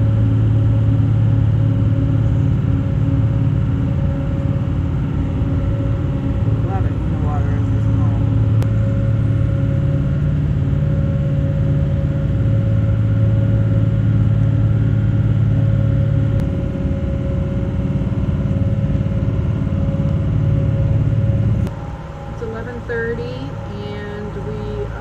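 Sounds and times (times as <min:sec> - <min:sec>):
boat diesel engines droning: 0:00.0 - 0:25.0.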